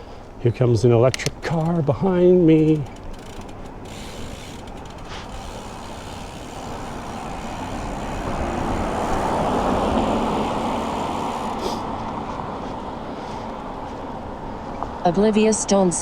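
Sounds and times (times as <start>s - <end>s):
electric car tyre noise: 1.1s - 15.9s.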